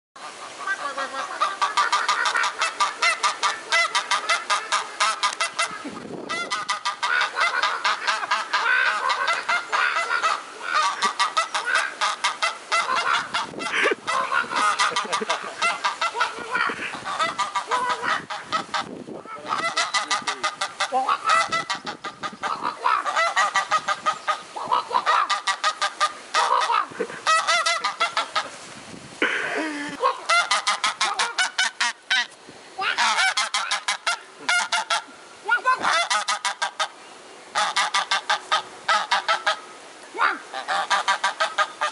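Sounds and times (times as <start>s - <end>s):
goose honking: 0.2s - 28.6s, 30.0s - 35.1s, 35.7s - 41.9s.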